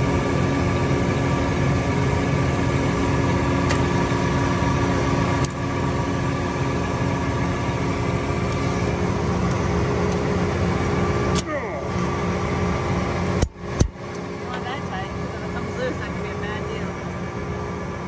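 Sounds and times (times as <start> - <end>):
diesel tractor engine idling: 0.0 - 18.0.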